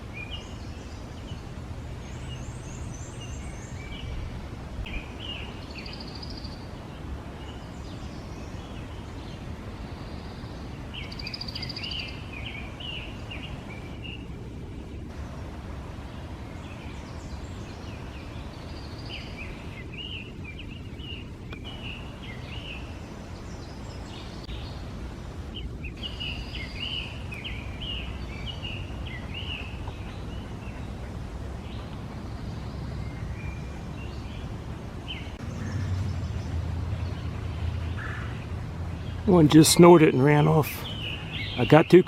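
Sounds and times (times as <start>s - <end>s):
low outdoor background noise: 0.0s - 42.0s
songbirds chirping: 0.0s - 42.0s.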